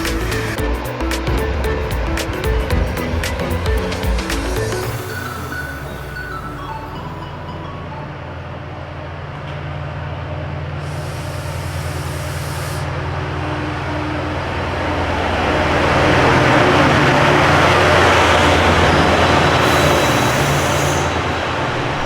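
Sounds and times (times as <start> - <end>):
diesel locomotive engine humming: 0.0 - 22.0
wheel and rail noise: 0.0 - 22.0.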